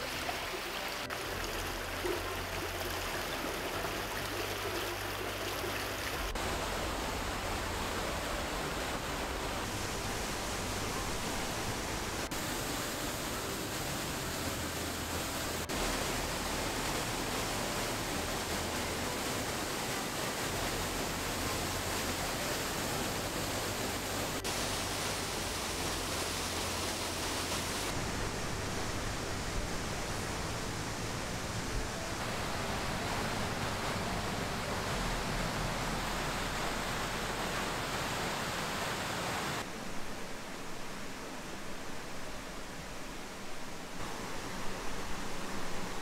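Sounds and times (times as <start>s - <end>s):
mountain stream and waterfalls: 0.0s - 46.0s.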